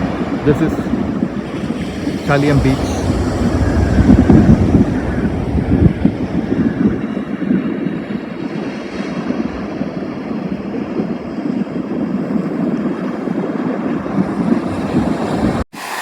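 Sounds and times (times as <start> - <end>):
wind buffeting microphone: 0.0 - 15.7
sea surf on beach: 0.0 - 16.0.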